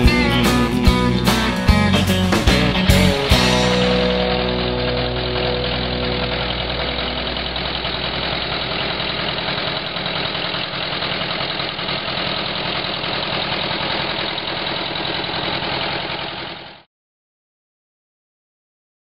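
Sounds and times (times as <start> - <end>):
tractor engine idling: 0.0 - 16.8.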